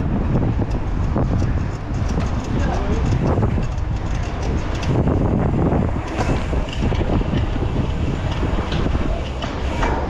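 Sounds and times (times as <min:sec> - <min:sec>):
low rumble of road noise: 0:00.0 - 0:10.0
wind buffeting microphone: 0:00.0 - 0:10.0.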